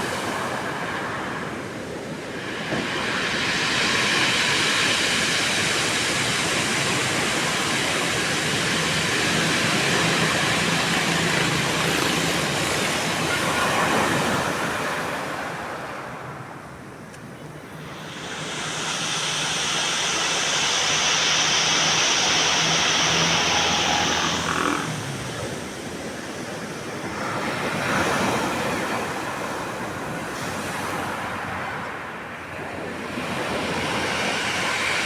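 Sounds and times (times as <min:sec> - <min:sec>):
ocean surf washing on beach: 0:00.0 - 0:35.0.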